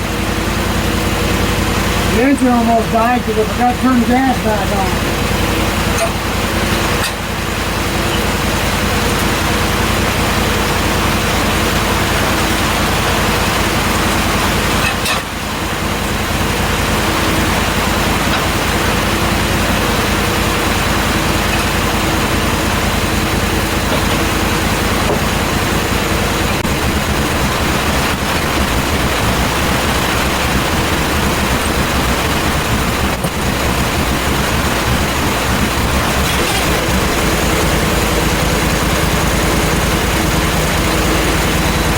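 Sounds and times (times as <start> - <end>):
bandsaw mill engine cutting log: 0.0 - 41.9.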